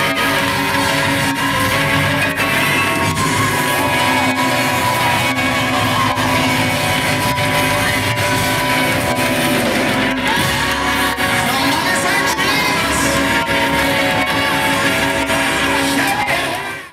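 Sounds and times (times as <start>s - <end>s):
choir singing: 0.0s - 16.9s
live gospel band music: 0.0s - 16.9s.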